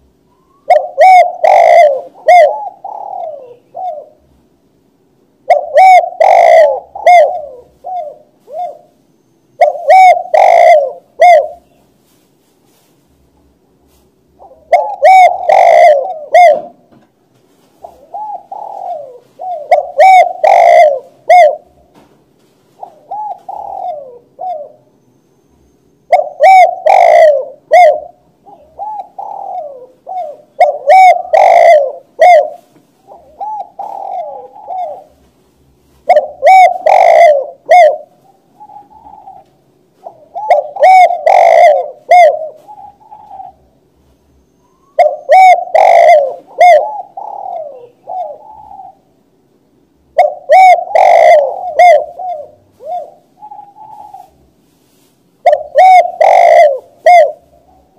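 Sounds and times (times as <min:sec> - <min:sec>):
dove cooing: 0:00.0 - 0:04.5, 0:05.4 - 0:12.9, 0:13.9 - 0:22.0, 0:22.7 - 0:25.0, 0:26.1 - 0:49.3, 0:50.0 - 0:57.9.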